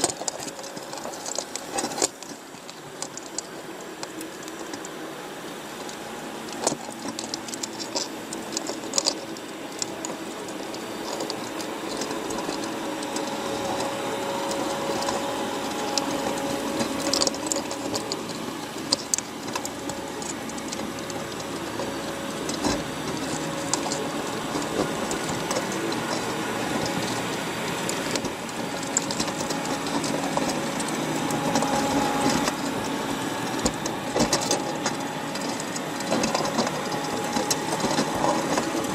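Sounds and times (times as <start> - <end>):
crabs clicking and scraping: 0.0 - 38.9
faint low hum: 0.0 - 38.9
watery wash: 0.0 - 38.9.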